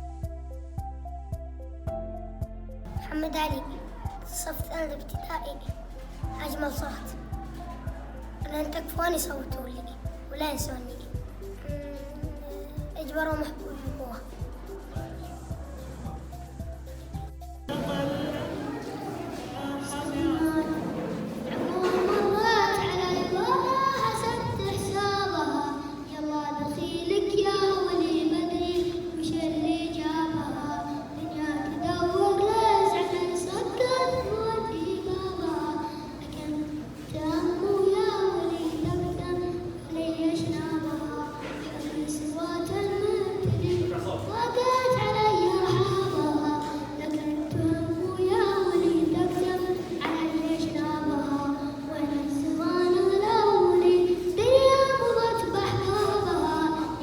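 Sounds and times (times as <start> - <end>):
boy singing: 2.9 - 16.0, 17.7 - 57.0.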